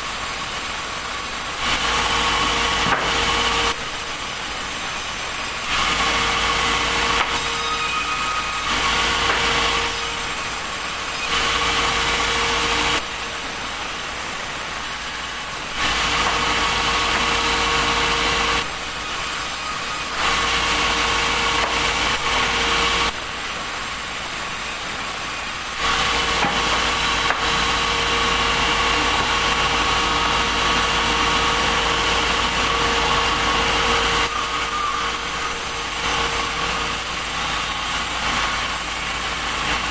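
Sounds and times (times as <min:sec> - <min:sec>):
sawmill machinery sawing logs: 0:00.3 - 0:23.3, 0:24.8 - 0:39.9.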